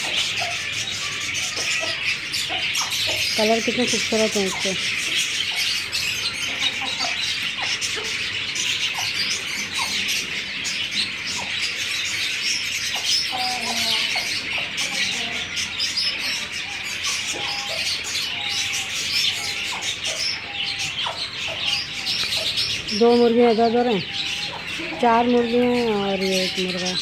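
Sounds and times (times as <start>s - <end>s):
lower bird calls: 0.0s - 27.0s
many birds chirping: 0.0s - 27.0s.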